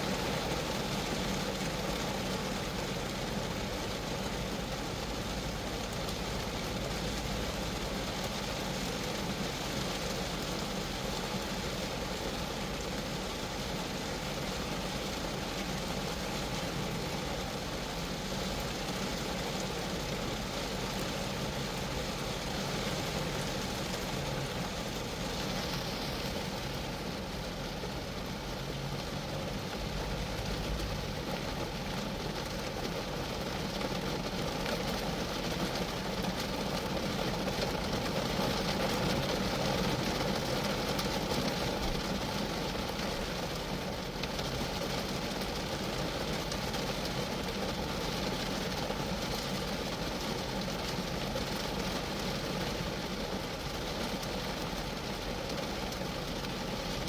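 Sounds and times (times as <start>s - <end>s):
rain on a car body: 0.0s - 57.0s.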